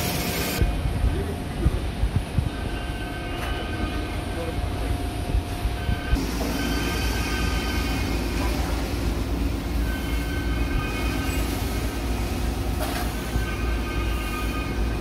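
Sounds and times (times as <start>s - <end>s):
factory machinery rumbling: 0.0s - 15.0s
faint steady whines: 0.1s - 15.0s.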